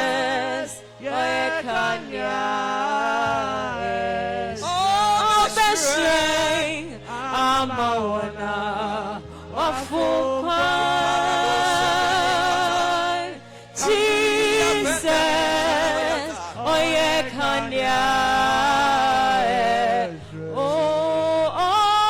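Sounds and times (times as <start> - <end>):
person singing gospel song: 0.0 - 22.0.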